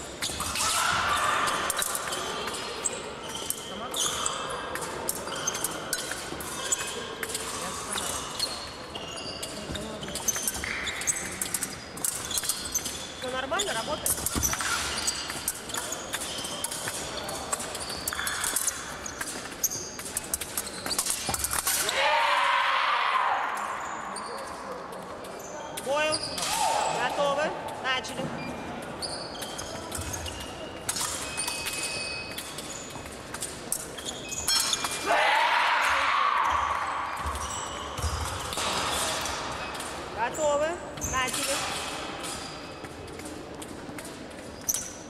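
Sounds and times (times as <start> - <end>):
shoes squeaking on floor: 0.0 - 21.8, 23.6 - 35.0, 36.2 - 45.0.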